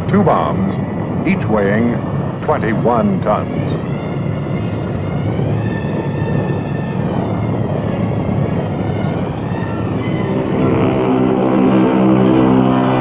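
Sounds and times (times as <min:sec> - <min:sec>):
bomber engines droning: 0:00.0 - 0:13.0.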